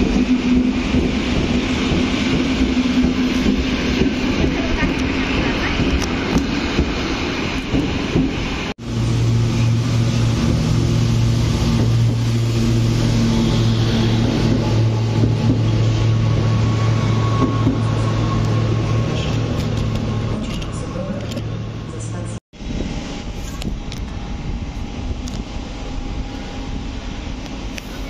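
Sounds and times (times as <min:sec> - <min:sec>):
passing train low drone: 0:00.0 - 0:28.0
train wheels on rails: 0:00.0 - 0:28.0.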